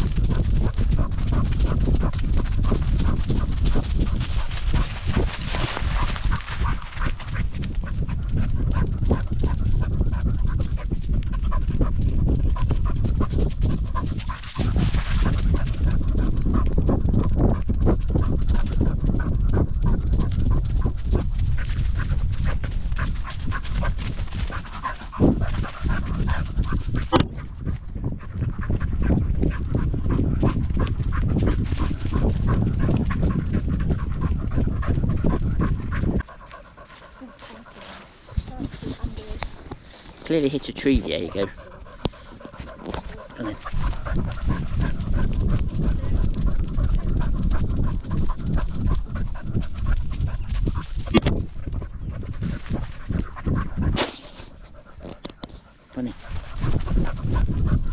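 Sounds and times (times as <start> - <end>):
dog panting: 0.0 - 57.9
wind rumble on microphone: 0.0 - 57.9.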